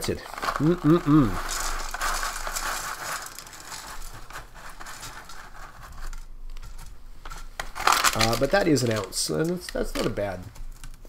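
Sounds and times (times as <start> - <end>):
potato sticks crackling: 0.0 - 11.0.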